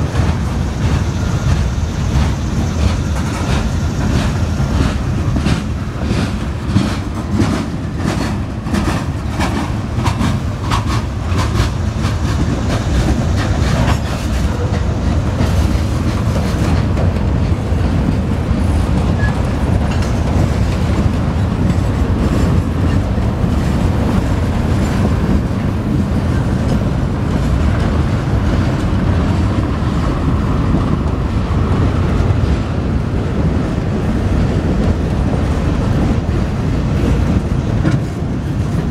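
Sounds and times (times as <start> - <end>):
freight train wheels rumbling: 0.0 - 38.9
wheels clacking over rail joints: 0.0 - 38.9.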